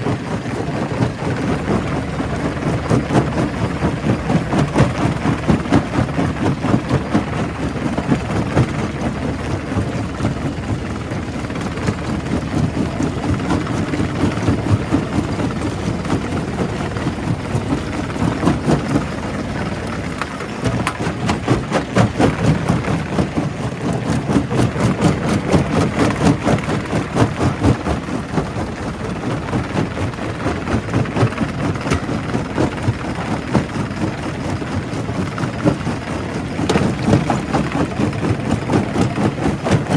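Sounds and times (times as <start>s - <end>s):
rock crusher rumbling: 0.0s - 39.9s.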